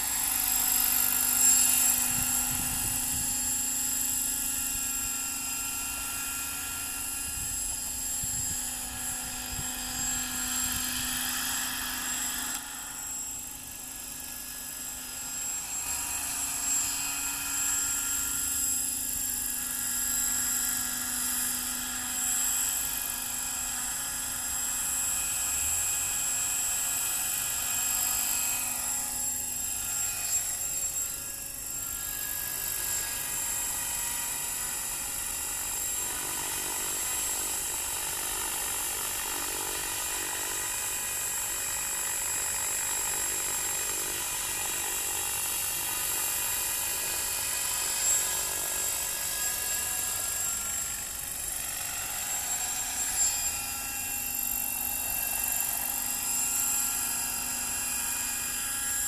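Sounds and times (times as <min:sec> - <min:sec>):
model helicopter whining: 0:00.0 - 0:59.0.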